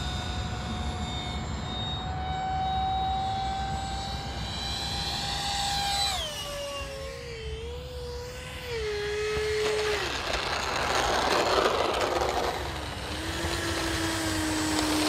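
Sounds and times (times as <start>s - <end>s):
model jet fan whining: 0.0s - 15.0s.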